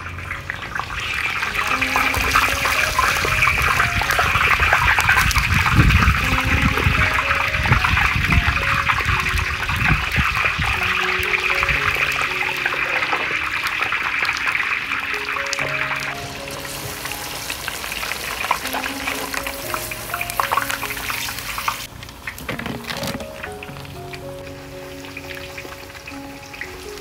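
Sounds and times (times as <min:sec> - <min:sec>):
fruit deep-frying in hot oil: 0:00.0 - 0:27.0.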